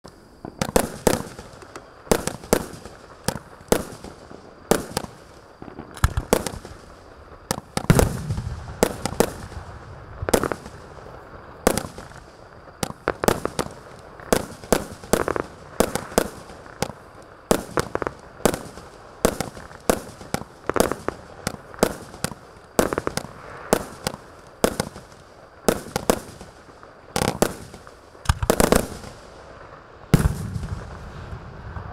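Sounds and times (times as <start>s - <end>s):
fireworks cake firing shots: 0.4s - 11.0s, 11.6s - 29.3s, 30.1s - 31.9s.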